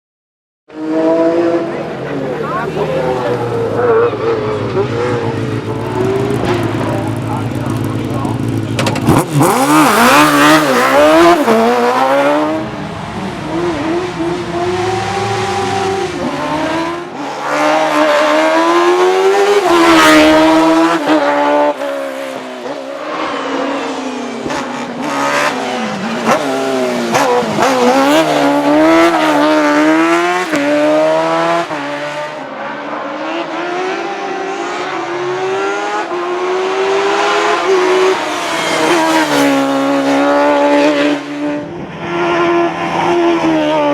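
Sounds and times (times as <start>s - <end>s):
racing car engine revving hard: 0.7s - 43.9s.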